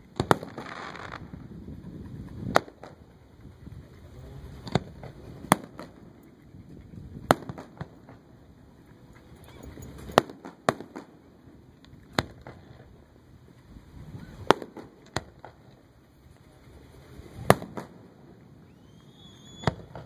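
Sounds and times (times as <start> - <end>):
fireworks bursting: 0.0 - 3.1, 4.4 - 6.3, 7.2 - 8.7, 9.4 - 20.0.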